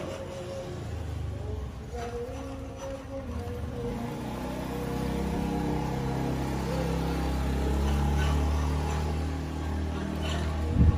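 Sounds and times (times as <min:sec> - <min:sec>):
vehicle motor running: 0:00.0 - 0:10.9.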